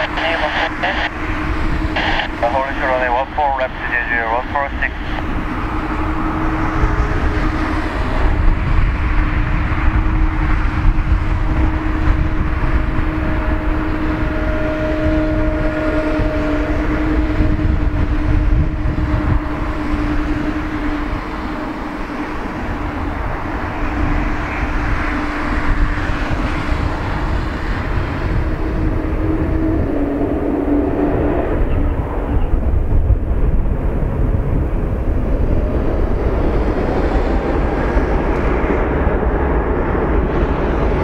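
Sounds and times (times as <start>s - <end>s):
jet engines humming: 0.0s - 41.0s.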